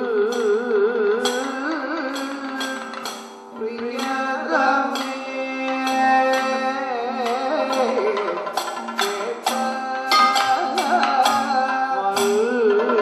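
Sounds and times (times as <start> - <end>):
person singing wavering melody: 0.0 - 13.0
sharp percussion strokes: 1.2 - 12.7.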